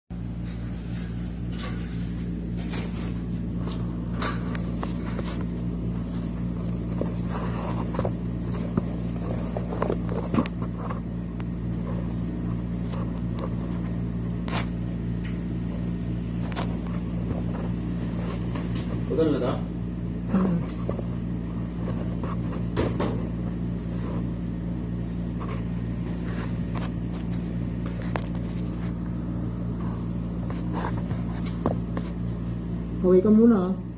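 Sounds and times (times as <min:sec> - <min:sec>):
low mechanical hum: 0:00.1 - 0:33.9.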